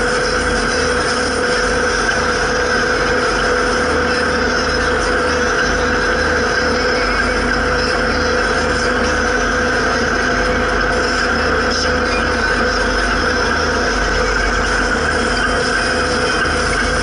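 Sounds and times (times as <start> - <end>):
steady whine: 0.0 - 17.0
tractor diesel engine running: 0.0 - 17.0.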